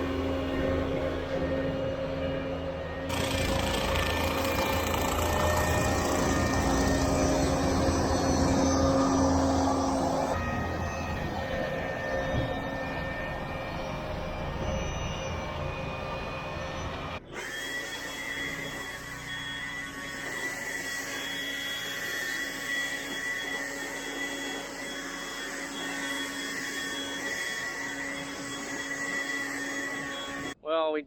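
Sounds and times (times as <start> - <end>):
machine hum with high tones: 0.0 - 30.6.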